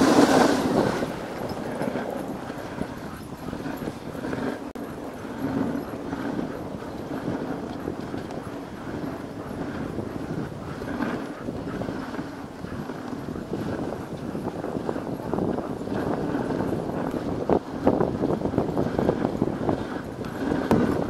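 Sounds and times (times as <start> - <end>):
dogs' feet on snow trail: 0.0 - 21.0
sled runners sliding on snow: 0.0 - 21.0.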